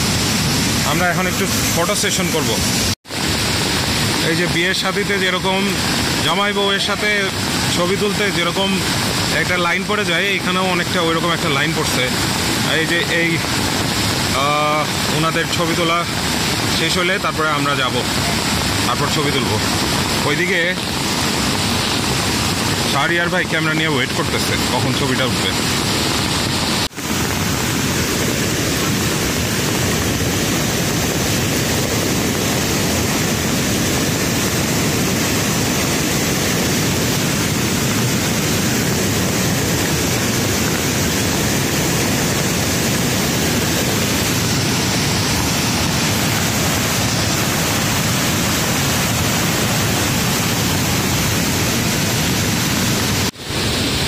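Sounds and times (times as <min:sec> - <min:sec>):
water rushing over boulders: 0:00.0 - 0:54.0.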